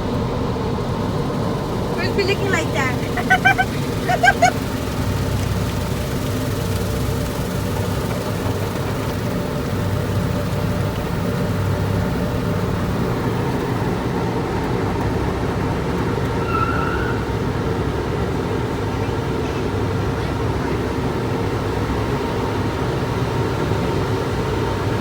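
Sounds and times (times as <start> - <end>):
car wash mechanical rumble: 0.0 - 25.0.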